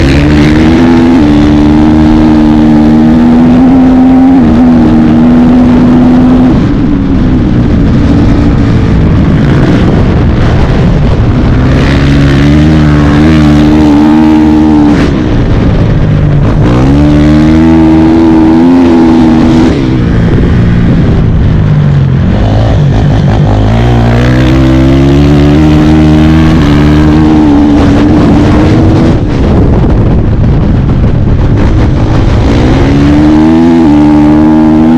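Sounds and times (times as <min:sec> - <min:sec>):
dirt bike engine revving: 0:00.0 - 0:30.7, 0:31.4 - 0:34.9.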